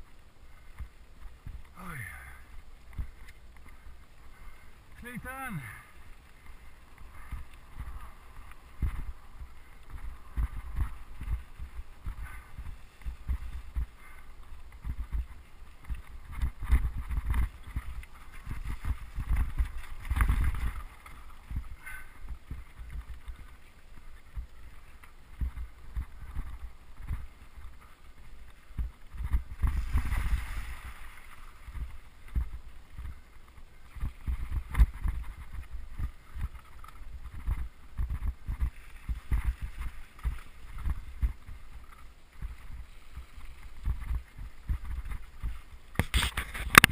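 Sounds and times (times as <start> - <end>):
wind rumble on microphone: 6.0 - 46.9.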